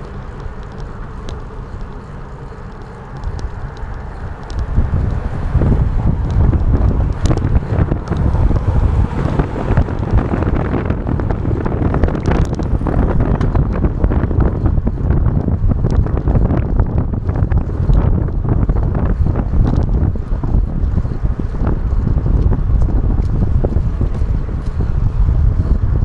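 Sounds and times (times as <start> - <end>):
small ticks: 0.0 - 25.8
wind buffeting microphone: 0.0 - 26.0.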